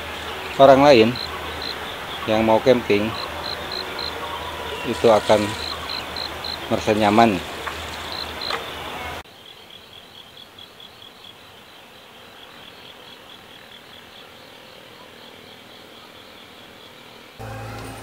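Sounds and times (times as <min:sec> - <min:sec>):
insect chirping: 0:00.0 - 0:17.4
faint forest hiss: 0:00.0 - 0:18.0.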